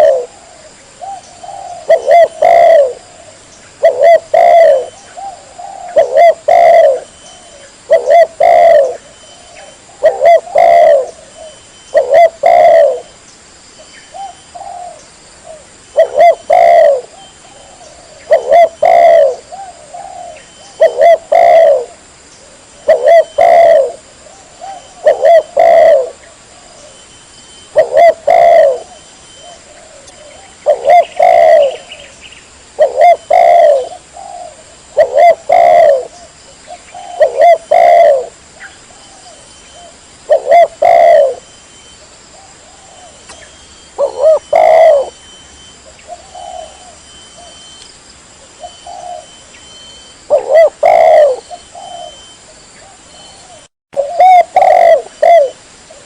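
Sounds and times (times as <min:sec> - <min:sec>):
dove cooing: 0:00.0 - 0:13.2, 0:14.1 - 0:47.8, 0:48.4 - 0:56.0.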